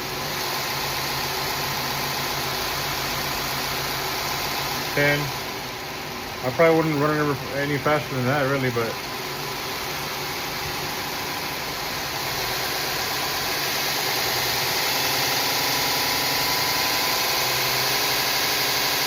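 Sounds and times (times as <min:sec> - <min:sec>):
belt grinder running: 0:00.0 - 0:19.0.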